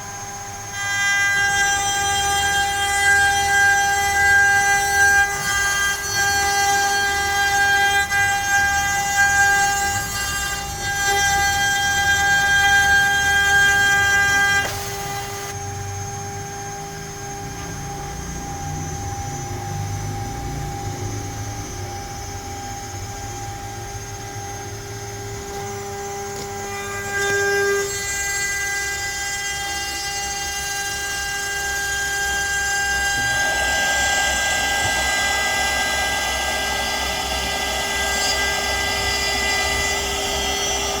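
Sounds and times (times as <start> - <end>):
cnc router spindle whining: 0.0 - 41.0
router bit milling wood: 0.0 - 41.0.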